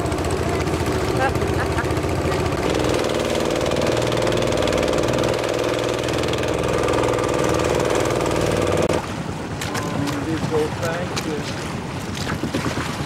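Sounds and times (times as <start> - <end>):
small outboard motor running: 0.0 - 13.0.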